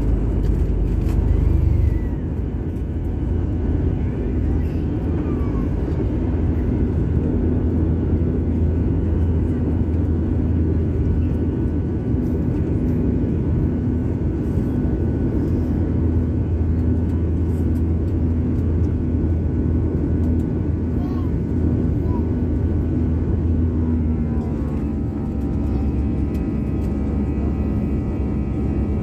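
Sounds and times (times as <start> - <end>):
jet engines droning in cabin: 0.0 - 29.0.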